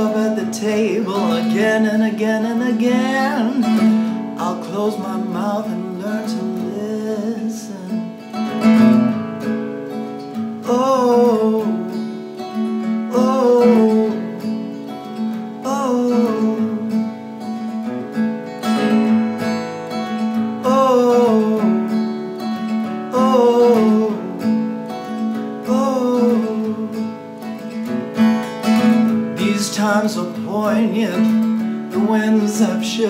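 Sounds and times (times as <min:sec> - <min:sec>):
man singing: 0:00.0 - 0:08.7, 0:10.6 - 0:17.3, 0:20.2 - 0:27.8, 0:28.6 - 0:33.0
strummed acoustic guitar: 0:00.0 - 0:33.0.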